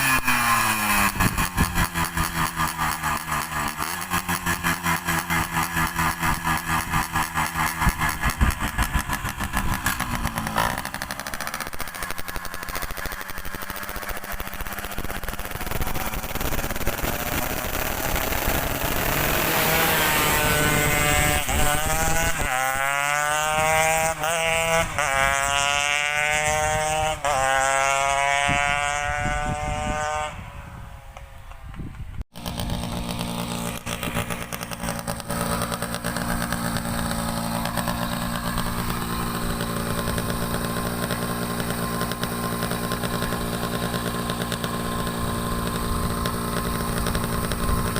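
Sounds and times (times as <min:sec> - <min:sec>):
moped engine revving: 0:00.0 - 0:47.9.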